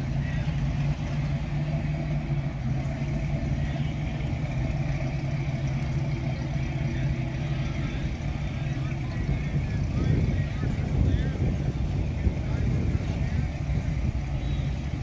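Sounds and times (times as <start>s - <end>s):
car engines driving slowly past: 0.0s - 15.0s.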